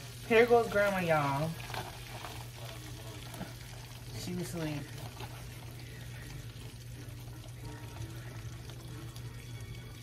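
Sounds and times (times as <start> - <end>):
chicken sizzling in oil: 0.0 - 10.0.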